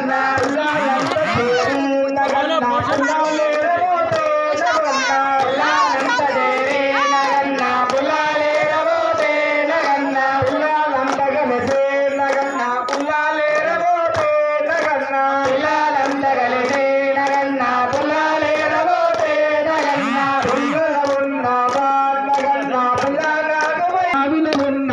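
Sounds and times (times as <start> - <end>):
men chanting a hymn: 0.0 - 24.4
hand clapping: 0.3 - 24.8.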